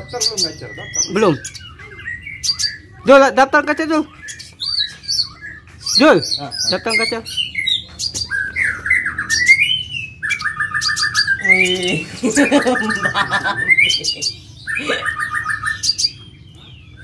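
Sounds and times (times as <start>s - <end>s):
fast rattling bird trills: 0.0s - 17.0s
sunbird singing: 0.0s - 17.0s.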